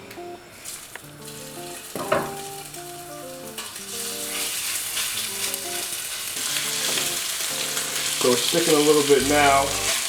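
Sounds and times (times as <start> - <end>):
food sizzling in a wok: 0.5 - 10.0.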